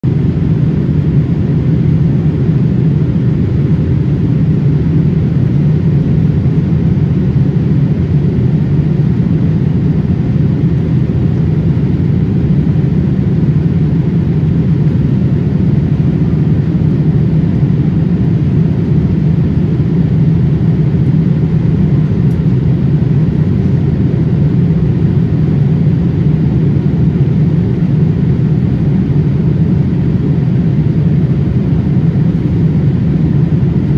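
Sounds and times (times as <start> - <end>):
airliner cabin drone: 0.0 - 33.9.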